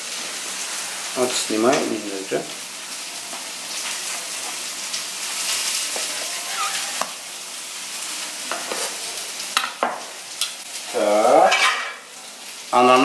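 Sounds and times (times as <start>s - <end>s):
sizzling hiss: 0.0s - 13.0s.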